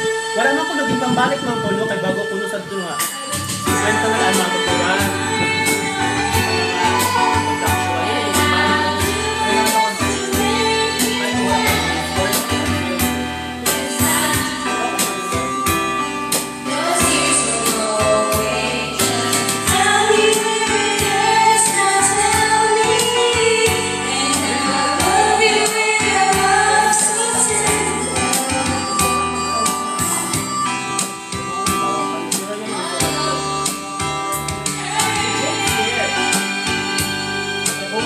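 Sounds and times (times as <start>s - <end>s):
karaoke backing track: 0.0s - 38.0s
women singing karaoke: 0.0s - 38.0s.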